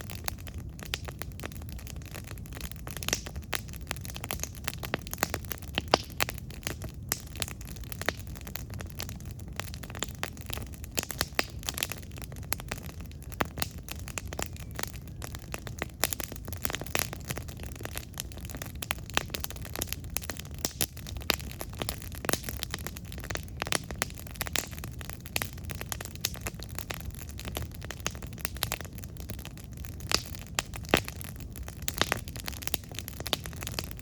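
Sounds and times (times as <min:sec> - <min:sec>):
wood crackling and popping: 0:00.0 - 0:34.0.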